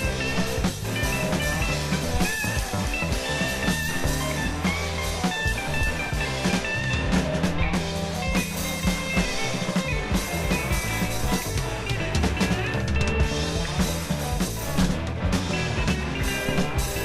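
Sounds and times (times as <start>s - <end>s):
bass line: 0.0s - 17.0s
drum kit: 0.0s - 17.0s
guitar: 0.0s - 17.0s.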